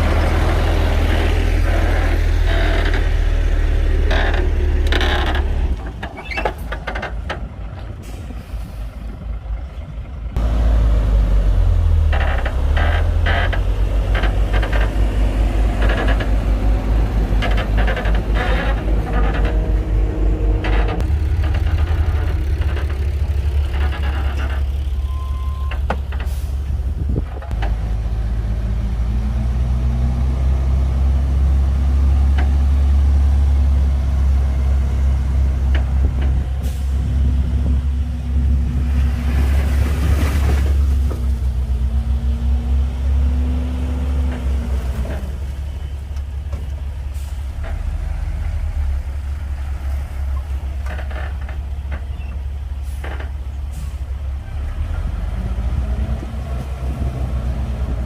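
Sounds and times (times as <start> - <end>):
bulldozer diesel engine throbbing: 0.0 - 58.0.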